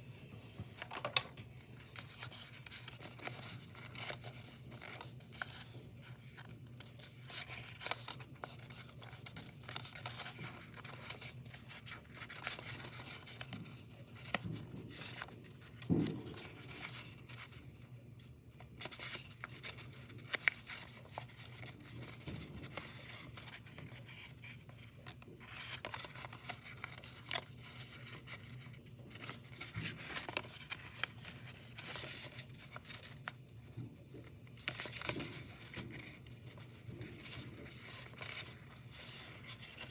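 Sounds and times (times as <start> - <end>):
paper crinkling and rustling: 0.6 - 17.8, 18.6 - 39.9.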